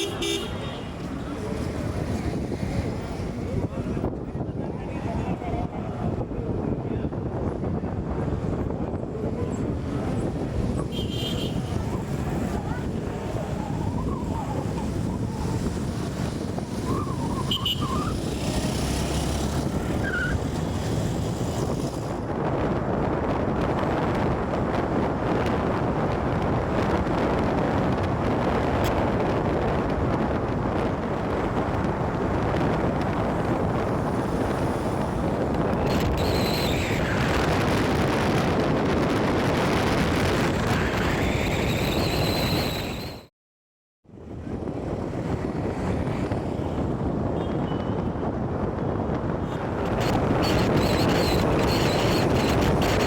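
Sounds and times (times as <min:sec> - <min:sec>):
road traffic rumble: 0:00.0 - 0:43.2, 0:44.1 - 0:53.0
wind buffeting microphone: 0:00.0 - 0:43.2, 0:44.0 - 0:53.0.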